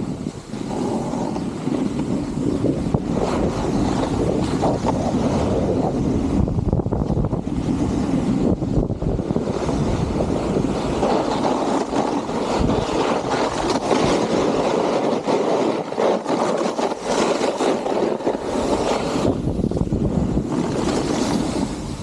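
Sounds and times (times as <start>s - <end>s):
snowboard edge scraping snow: 0.0s - 22.0s
wind on microphone: 0.0s - 22.0s.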